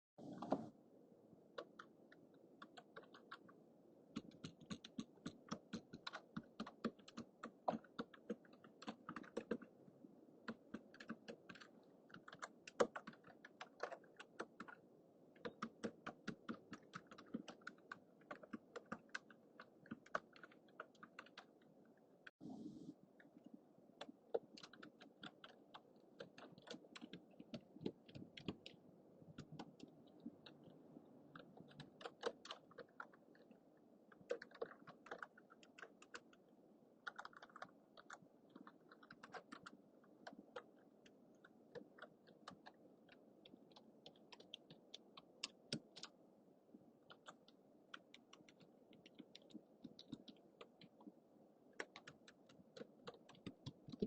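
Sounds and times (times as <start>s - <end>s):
faint low hum: 0.2s - 54.0s
keyboard typing: 1.5s - 9.8s, 10.4s - 21.7s, 24.0s - 36.4s, 37.0s - 46.2s, 47.0s - 51.2s, 51.8s - 54.0s.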